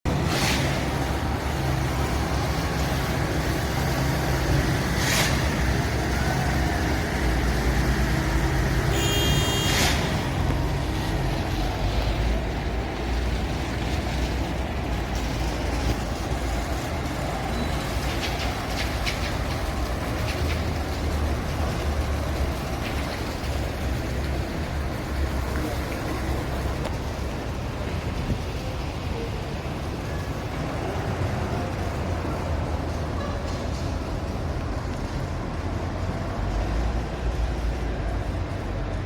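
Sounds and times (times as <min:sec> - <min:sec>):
heavy vehicle engine rumble: 0:00.0 - 0:39.0.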